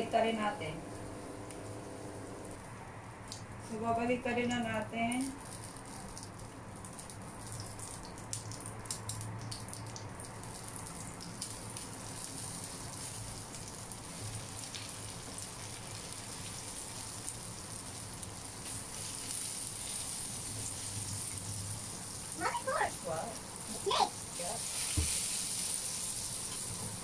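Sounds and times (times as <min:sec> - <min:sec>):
omelettes sizzling in oil: 0:00.0 - 0:27.0.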